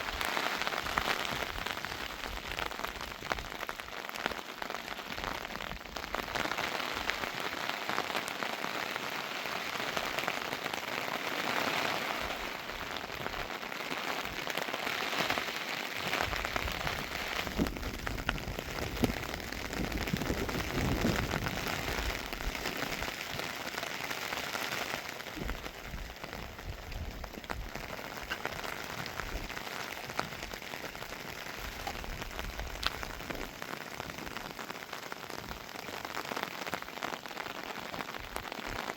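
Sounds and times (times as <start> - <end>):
heavy rain hissing: 0.0 - 38.9
raindrops ticking on surfaces: 0.0 - 38.9.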